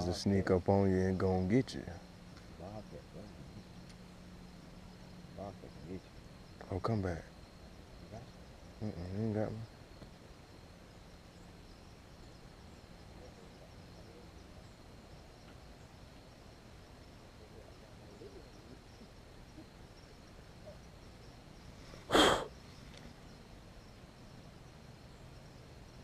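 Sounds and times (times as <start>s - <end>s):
night insect chorus: 0.0s - 26.0s.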